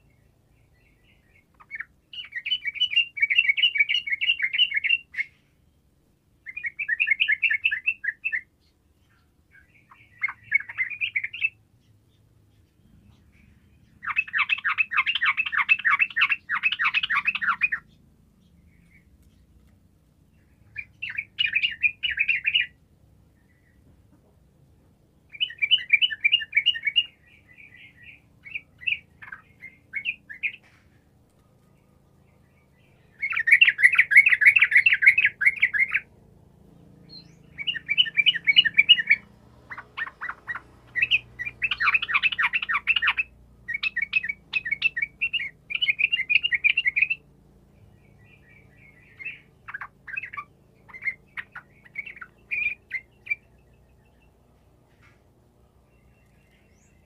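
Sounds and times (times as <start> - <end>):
bird singing chattering phrases: 0.0 - 19.6, 20.2 - 24.5, 25.2 - 31.1, 32.2 - 57.0.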